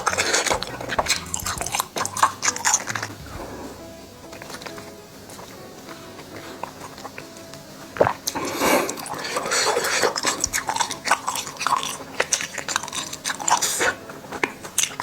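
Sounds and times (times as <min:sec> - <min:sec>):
chewing wax candy: 0:00.0 - 0:03.7, 0:06.5 - 0:15.0.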